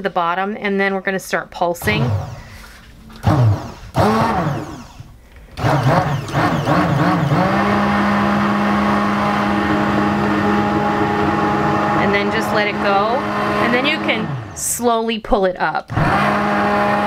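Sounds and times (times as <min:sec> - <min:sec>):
immersion blender running: 0:01.8 - 0:14.7, 0:15.9 - 0:17.0.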